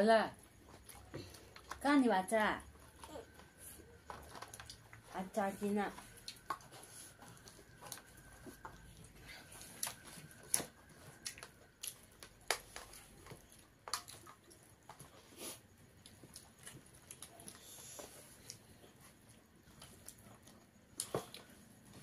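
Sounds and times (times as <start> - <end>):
fingers mixing rice: 0.2 - 22.0
wet chewing: 0.4 - 1.8, 2.6 - 22.0.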